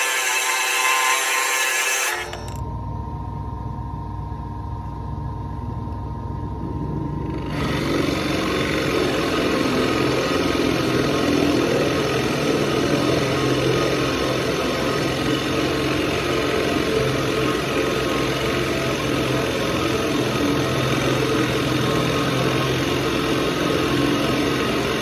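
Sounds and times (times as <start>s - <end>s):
electric drill boring wood: 0.0s - 2.6s, 7.4s - 25.0s.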